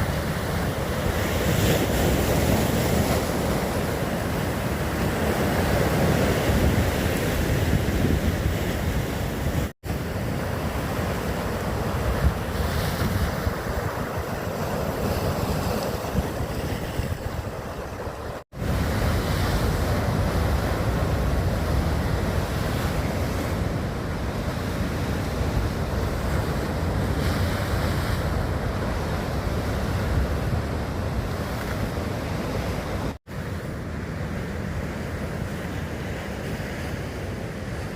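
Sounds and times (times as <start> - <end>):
sea waves washing: 0.0 - 37.9
wind rumbling on microphone: 0.0 - 37.9.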